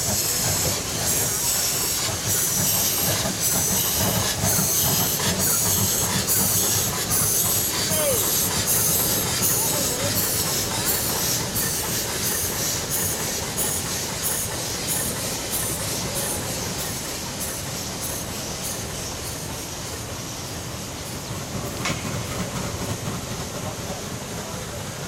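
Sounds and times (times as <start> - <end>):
steam hiss: 0.0 - 25.0
steam locomotive chuffing: 0.0 - 25.0.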